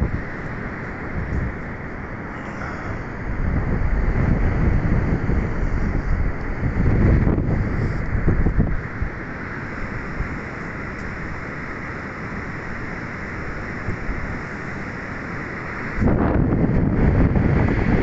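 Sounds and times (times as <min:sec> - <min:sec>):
surf rushing: 0:00.0 - 0:18.0
wind buffeting microphone: 0:00.0 - 0:18.0.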